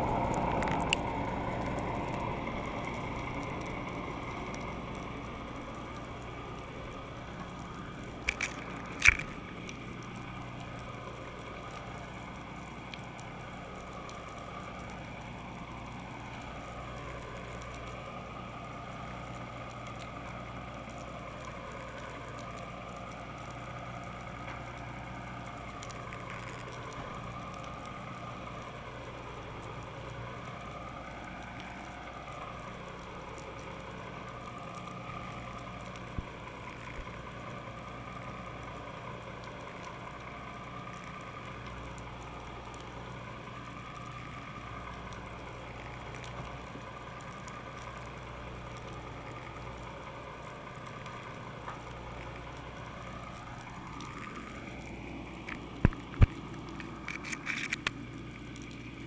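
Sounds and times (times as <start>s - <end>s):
boat engine humming and whining: 0.0s - 59.0s.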